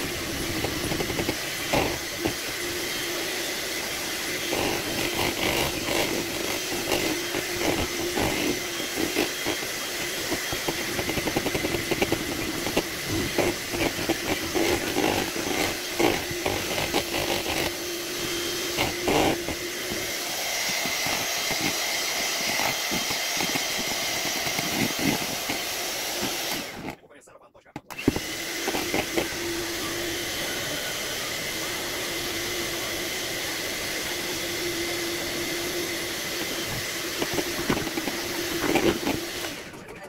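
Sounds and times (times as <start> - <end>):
electric hand mixer running: 0.0 - 27.0, 27.9 - 40.0.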